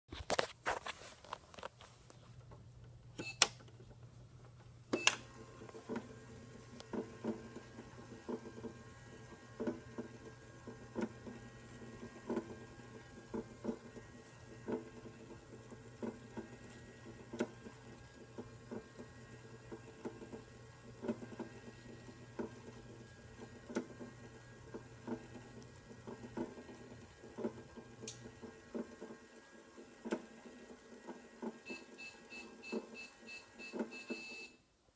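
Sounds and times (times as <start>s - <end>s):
toy microwave humming: 4.9s - 34.6s.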